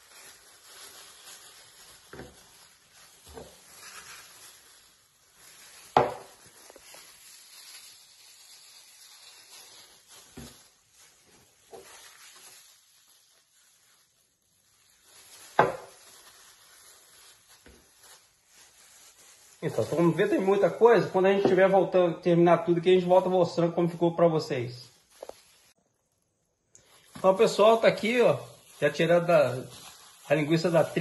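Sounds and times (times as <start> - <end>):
plastic gloves rustling and squelching: 0.0 - 31.0.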